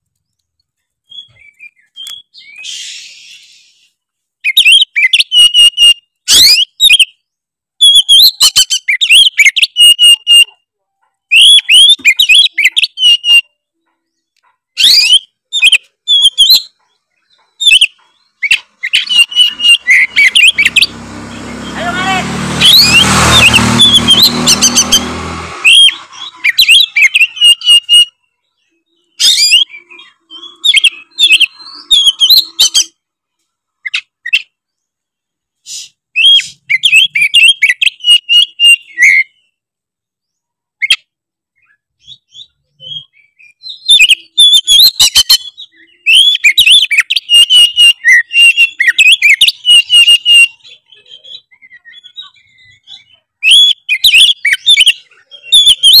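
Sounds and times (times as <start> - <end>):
bird singing whistles and chatter: 1.0 - 10.6, 11.2 - 13.6, 14.2 - 33.0, 35.6 - 39.5, 41.6 - 56.0.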